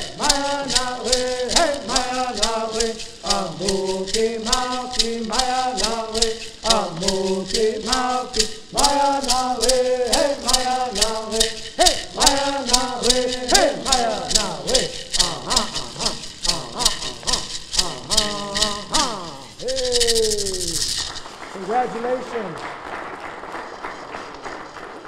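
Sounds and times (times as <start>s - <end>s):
men singing in unison: 0.0s - 21.0s
gourd rattles shaking: 0.0s - 22.6s.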